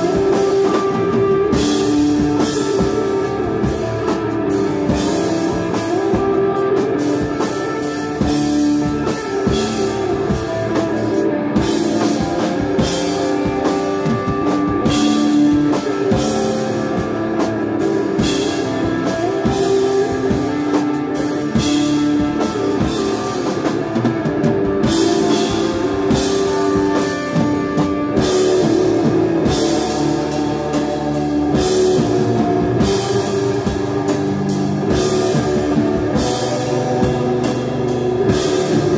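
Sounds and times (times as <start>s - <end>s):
bass guitar: 0.0s - 38.9s
drum kit: 0.0s - 38.9s
electric guitar sustained notes: 0.0s - 38.9s.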